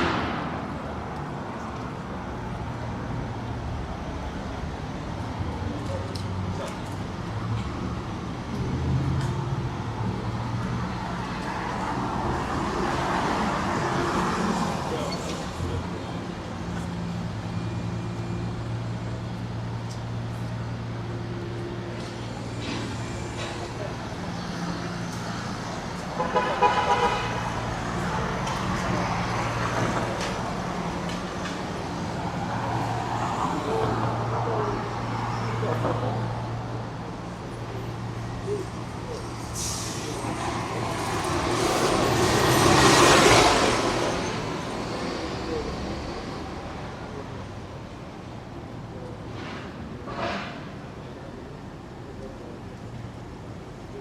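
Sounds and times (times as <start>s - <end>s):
city street traffic: 0.0s - 54.0s
road noise: 0.0s - 54.0s.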